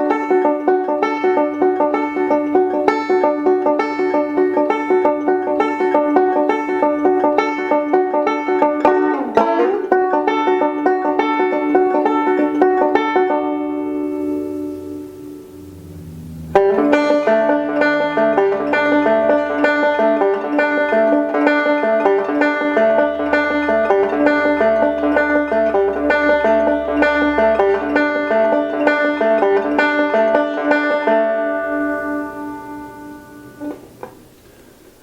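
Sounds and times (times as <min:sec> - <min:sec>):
fingerpicked banjo: 0:00.0 - 0:35.0.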